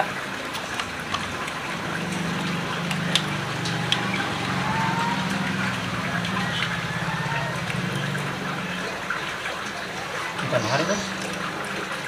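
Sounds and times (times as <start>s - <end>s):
low motor hum: 0.6s - 12.0s.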